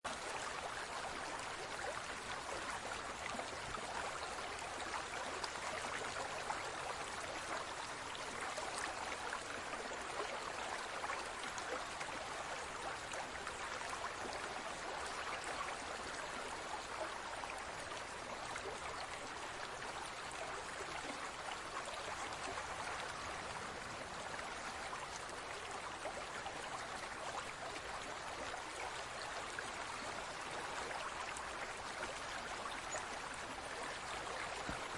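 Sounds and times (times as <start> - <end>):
aquarium water trickling and bubbling: 0.1 - 34.9.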